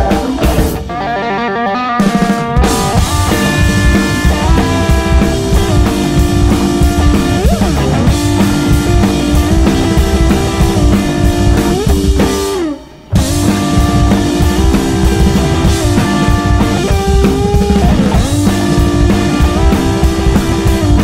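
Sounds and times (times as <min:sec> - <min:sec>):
organ trio playing jazz-funk: 0:02.0 - 0:21.0.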